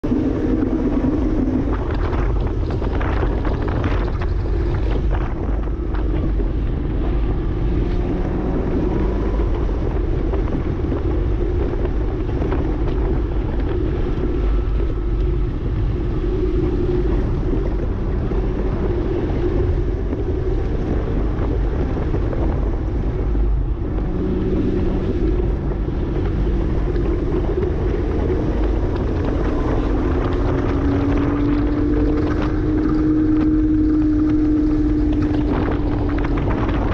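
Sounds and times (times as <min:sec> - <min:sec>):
car engine running: 0:00.0 - 0:36.9
road and wind noise: 0:00.0 - 0:36.9.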